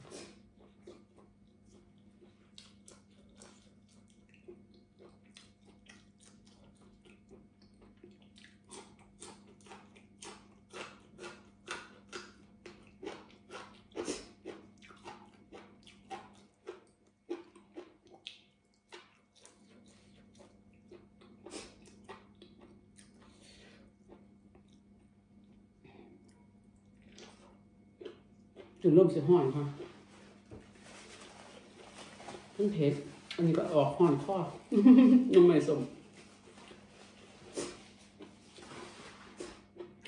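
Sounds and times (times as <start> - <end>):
person chewing food: 0.0 - 32.6, 33.2 - 40.0.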